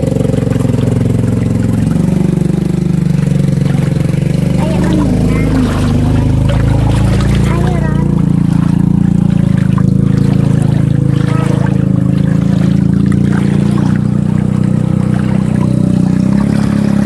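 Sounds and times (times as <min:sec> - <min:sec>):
water rushing in canal: 0:00.0 - 0:17.0.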